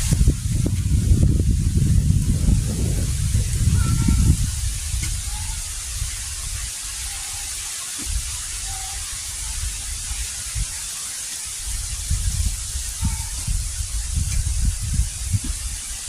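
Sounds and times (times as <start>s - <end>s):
wind buffeting microphone: 0.0s - 10.9s, 11.5s - 16.0s
heavy rain hissing: 0.0s - 16.0s.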